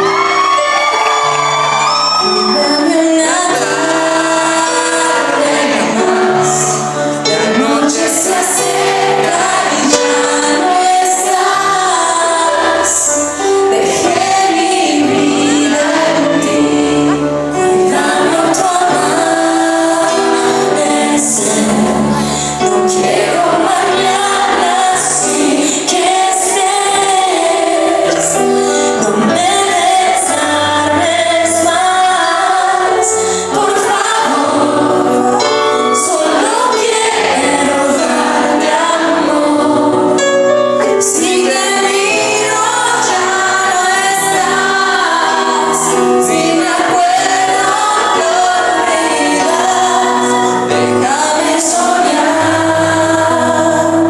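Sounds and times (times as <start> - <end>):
band playing pop: 0.0 - 54.0
women singing together: 2.3 - 54.0.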